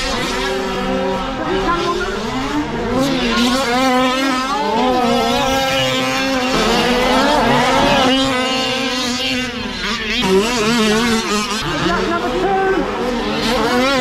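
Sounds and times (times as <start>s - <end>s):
rc car engines revving: 0.0s - 14.0s.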